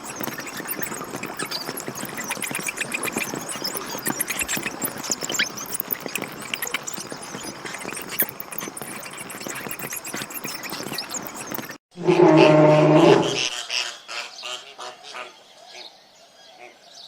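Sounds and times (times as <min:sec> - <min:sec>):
small animals squeaking and chirping: 0:00.0 - 0:13.9.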